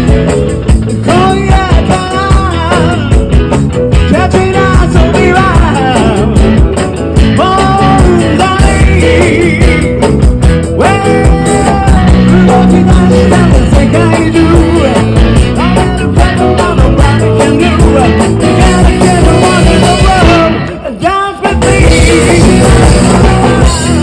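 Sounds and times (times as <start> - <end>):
rock band music with singer: 0.0 - 24.0.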